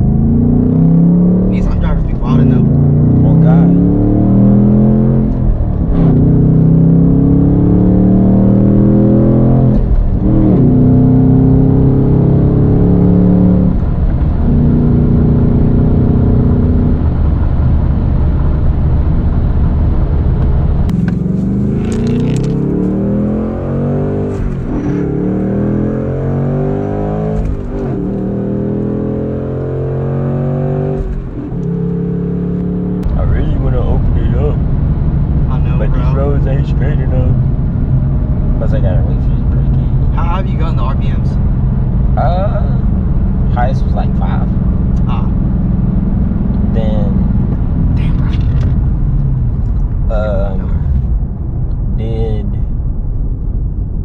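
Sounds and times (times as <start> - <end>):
car engine under power: 0.0 - 52.6.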